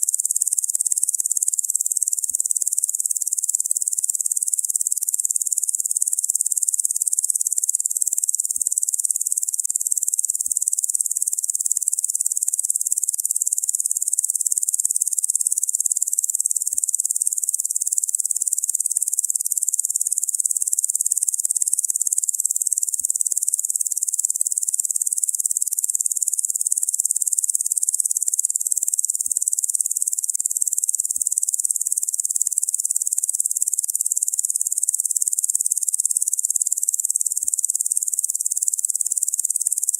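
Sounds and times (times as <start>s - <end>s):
insects buzzing: 0.2s - 39.9s.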